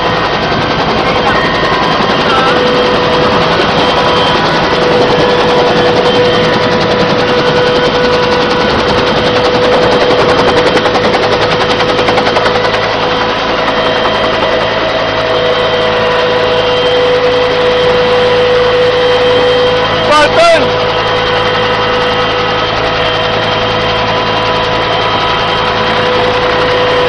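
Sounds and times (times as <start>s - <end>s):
helicopter rotor chopping: 0.0s - 27.0s.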